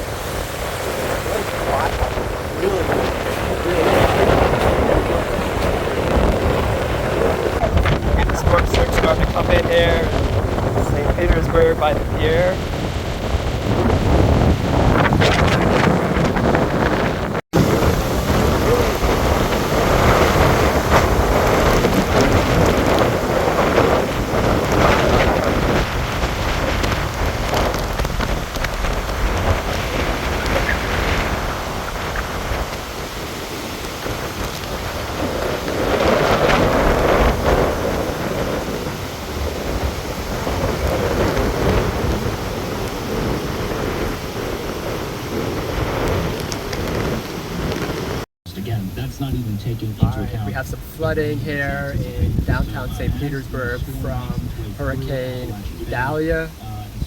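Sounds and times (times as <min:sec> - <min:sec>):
waves washing: 0:00.0 - 0:57.0
wind and rain buffeting microphone: 0:00.0 - 0:57.0.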